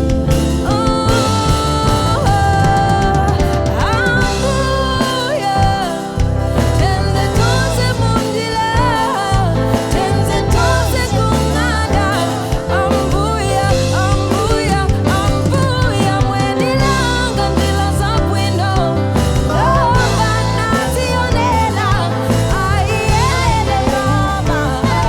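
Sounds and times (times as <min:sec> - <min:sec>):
live soul band playing: 0:00.0 - 0:25.0
woman singing: 0:00.0 - 0:25.0.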